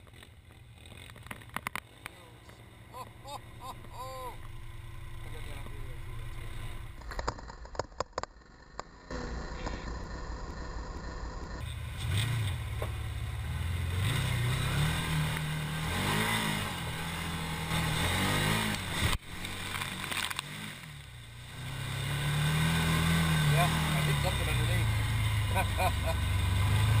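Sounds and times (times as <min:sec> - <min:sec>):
atv engine revving: 0:00.0 - 0:27.0.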